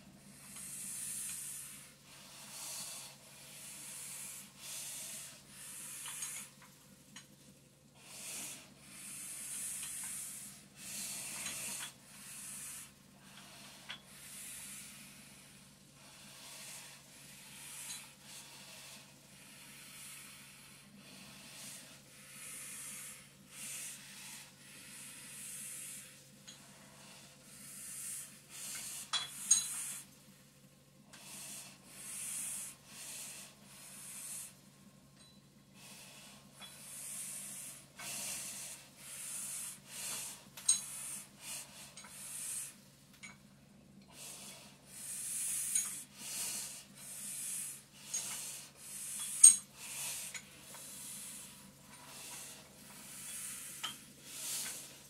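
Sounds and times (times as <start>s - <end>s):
heavy rhythmic breathing through mask: 0.0s - 55.0s.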